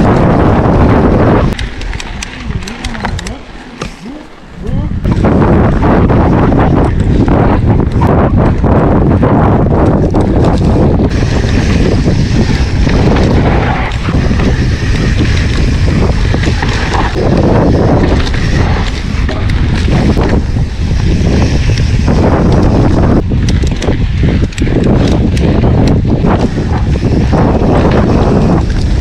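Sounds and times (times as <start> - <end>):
bike clattering over bumps: 0.0 - 3.4, 5.1 - 29.0
bike tyres on dirt: 0.0 - 29.0
wind on camera microphone: 0.0 - 29.0.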